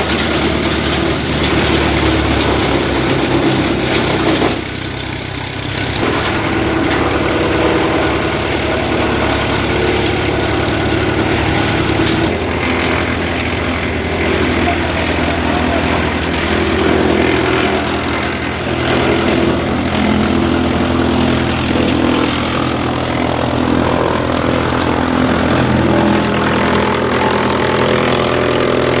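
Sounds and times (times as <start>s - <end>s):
wood chipper running: 0.0s - 29.0s.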